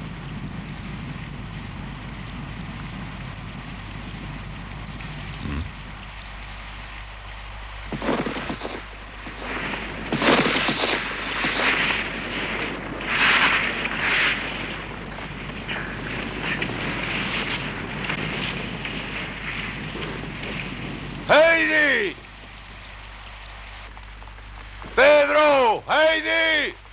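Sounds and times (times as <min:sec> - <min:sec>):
steady rain: 0:00.0 - 0:26.9
storm gusts: 0:00.0 - 0:26.9.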